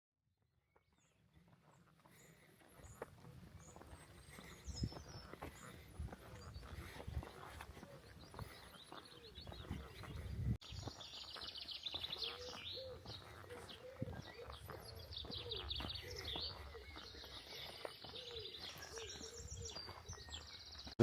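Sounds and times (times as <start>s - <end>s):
birds trilling and chirping: 1.0s - 21.0s.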